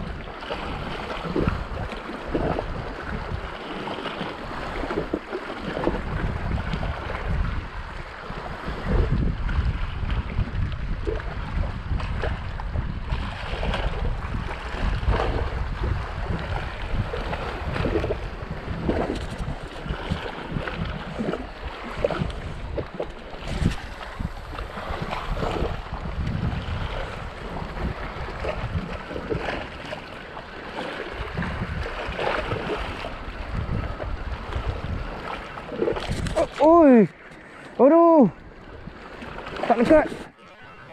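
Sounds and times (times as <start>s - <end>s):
small waves washing on rocks: 0.0s - 40.9s
wind buffeting microphone: 0.0s - 40.9s.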